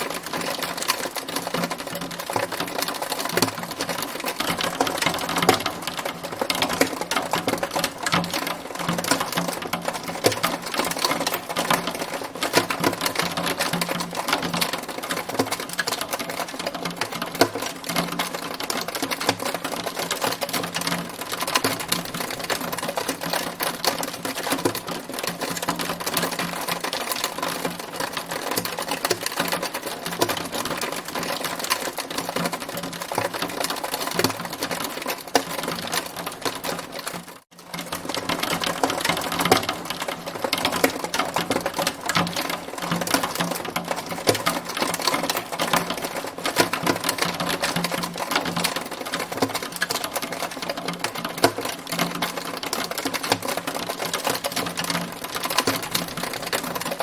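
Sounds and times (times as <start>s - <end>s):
hail clattering: 0.0s - 57.0s.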